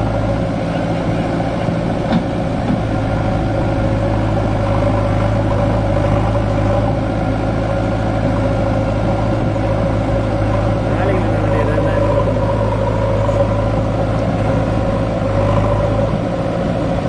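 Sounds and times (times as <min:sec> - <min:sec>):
diesel engine running: 0:00.0 - 0:17.0
high-pitched whine: 0:00.0 - 0:17.0.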